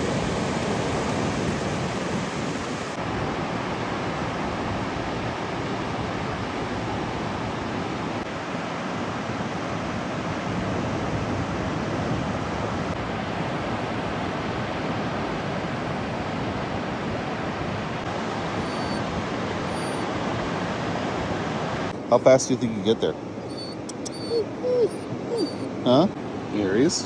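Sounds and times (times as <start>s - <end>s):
ocean surf: 0.0s - 10.6s, 12.1s - 23.4s
wind: 0.0s - 27.0s.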